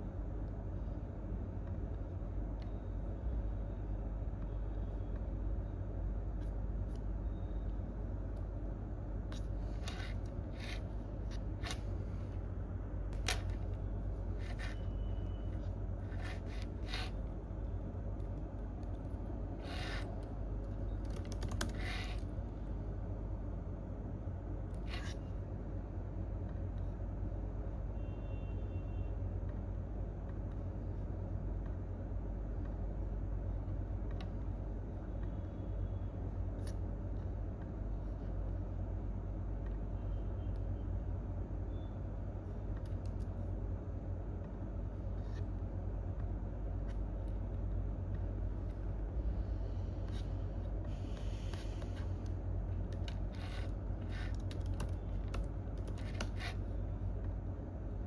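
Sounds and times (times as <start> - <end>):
low office room rumble: 0.0 - 58.0.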